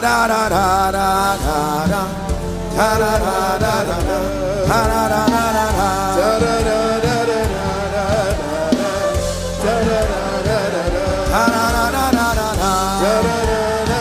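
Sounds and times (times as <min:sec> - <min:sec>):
instrumental backing music: 0:00.0 - 0:14.0.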